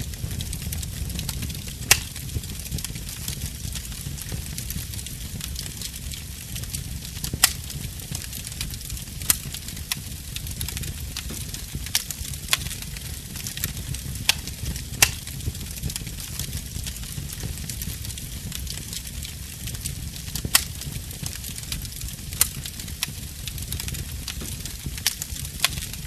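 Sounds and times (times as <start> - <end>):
fire pops: 0.0 - 26.0
wood fire crackling: 0.0 - 26.0.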